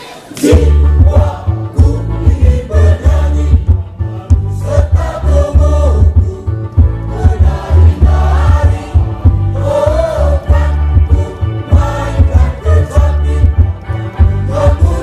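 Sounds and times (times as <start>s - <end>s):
choir singing: 0.0s - 15.0s
heavy pulsing low beat: 0.4s - 15.0s.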